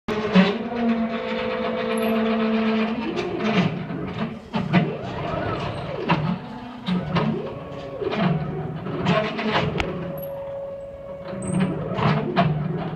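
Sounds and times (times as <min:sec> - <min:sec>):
stepper motors whining: 0:00.1 - 0:12.9.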